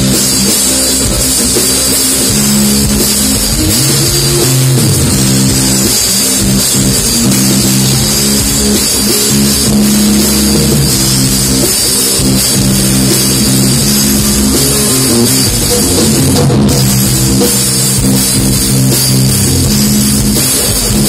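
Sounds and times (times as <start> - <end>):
drum kit beat: 0.0 - 21.0
electric guitar: 0.0 - 21.0
live band playing amplified music: 0.0 - 21.0.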